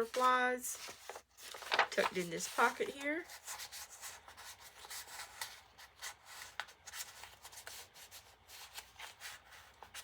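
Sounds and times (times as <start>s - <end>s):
paper and card rustling: 0.0s - 10.0s.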